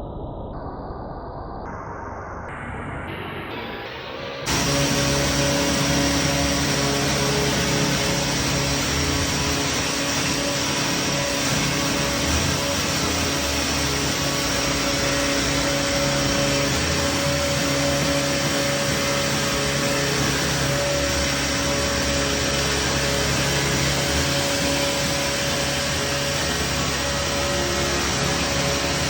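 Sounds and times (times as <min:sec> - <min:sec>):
sawmill saw ripping a log: 0:04.5 - 0:29.0.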